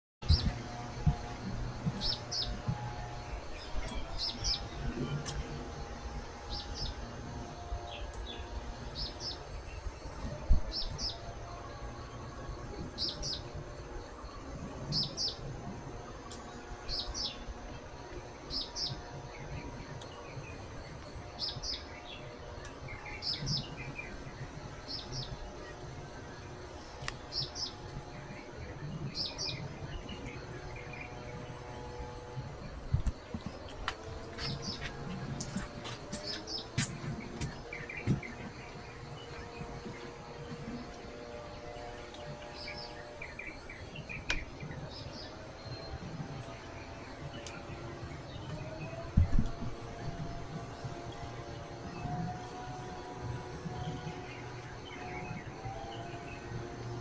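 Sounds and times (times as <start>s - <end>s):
small bird chirping: 0.2s - 57.0s.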